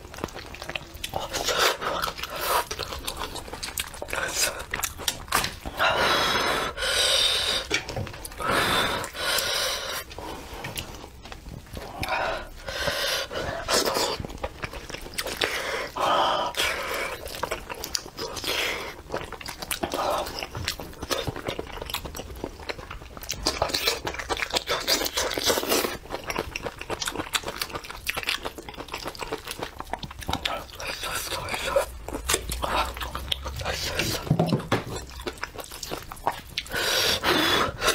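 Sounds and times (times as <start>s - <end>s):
chewing and biting: 0.0s - 5.8s, 7.2s - 37.9s.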